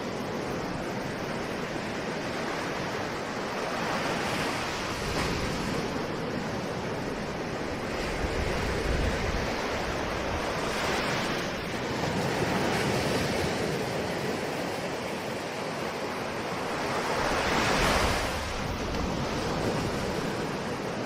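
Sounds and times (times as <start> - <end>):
ocean waves washing onto shore: 0.0 - 21.0.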